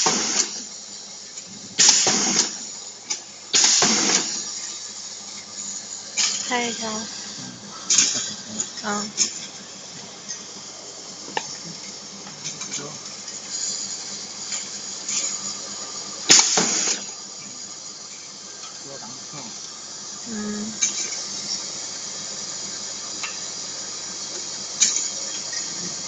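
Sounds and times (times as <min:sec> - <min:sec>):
air exhaust hissing: 0:00.0 - 0:26.0.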